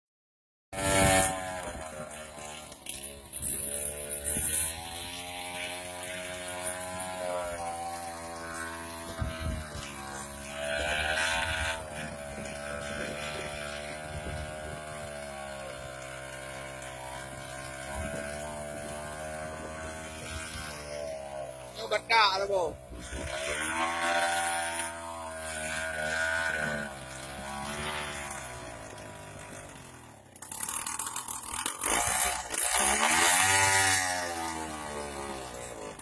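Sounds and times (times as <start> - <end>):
small engine running: 0.8 - 36.0.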